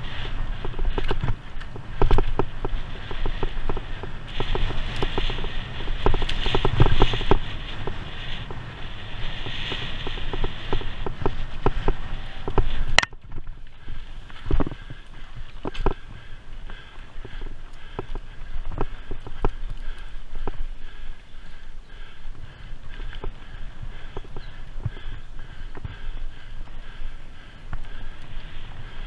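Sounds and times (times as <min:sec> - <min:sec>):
bicycle tyres rumbling: 0:00.0 - 0:29.0
bike rattling and knocking: 0:00.0 - 0:29.0.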